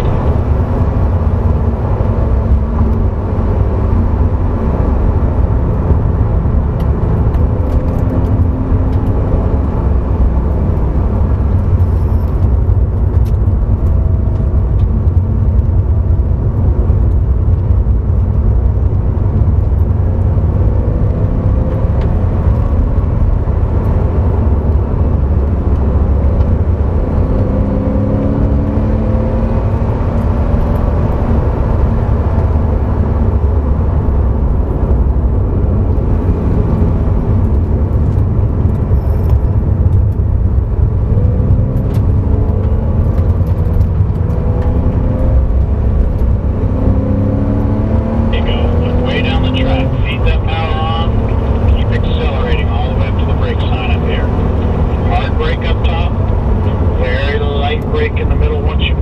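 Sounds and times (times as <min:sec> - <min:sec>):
sports car engine rumble in cabin: 0:00.0 - 0:59.0.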